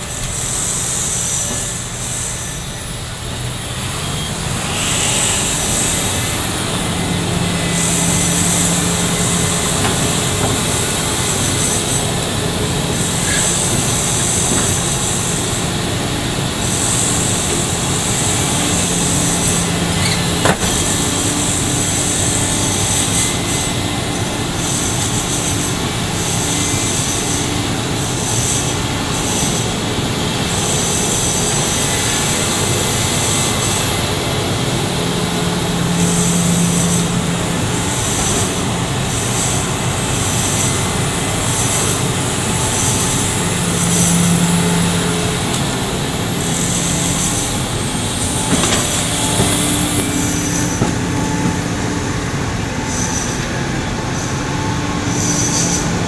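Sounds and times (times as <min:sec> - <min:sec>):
excavator diesel engine: 0:00.0 - 0:56.0
hydraulic hiss: 0:00.0 - 0:56.0.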